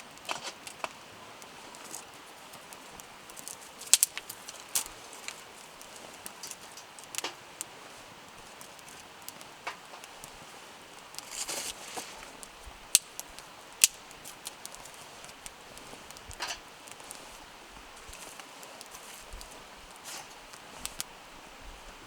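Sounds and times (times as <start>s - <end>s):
campfire crackling and popping: 0.0s - 21.8s
faint steady hiss: 0.0s - 22.0s.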